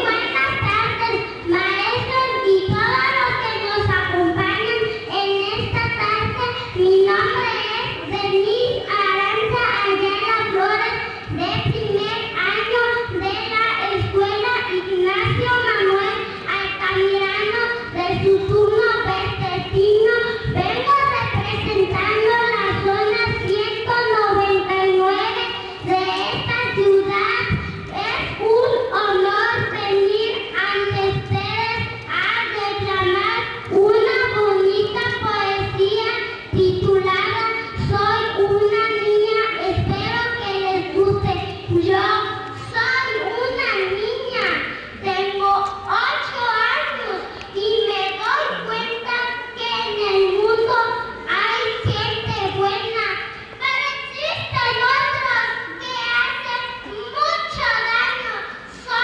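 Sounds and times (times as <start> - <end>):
girl chanting into microphone: 0.0 - 59.0.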